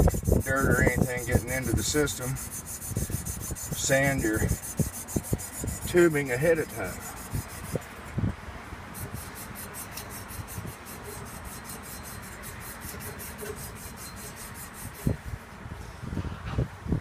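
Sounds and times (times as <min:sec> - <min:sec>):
sanding tubing rasping: 0:00.0 - 0:08.0, 0:08.9 - 0:15.3.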